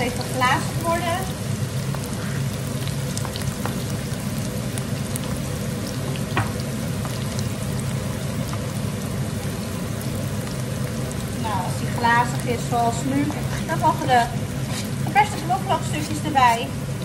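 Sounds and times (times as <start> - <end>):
onions sizzling in oil: 0.0 - 17.0
steady low hum: 0.0 - 17.0.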